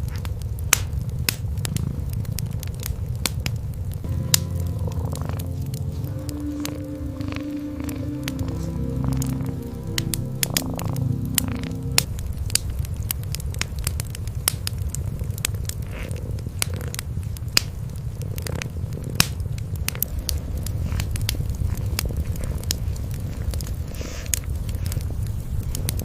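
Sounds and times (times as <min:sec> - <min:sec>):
wood fire crackling: 0:00.0 - 0:26.0
cats purring: 0:01.1 - 0:03.3, 0:04.7 - 0:12.1, 0:13.4 - 0:26.0.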